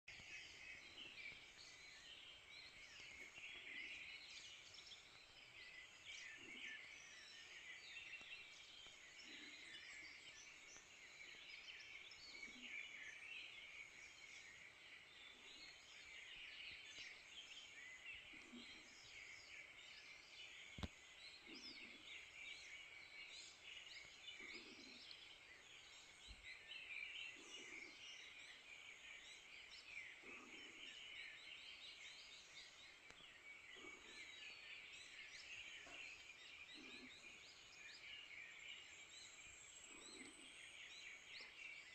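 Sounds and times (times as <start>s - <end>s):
birds chirping and trilling: 0.1s - 41.9s.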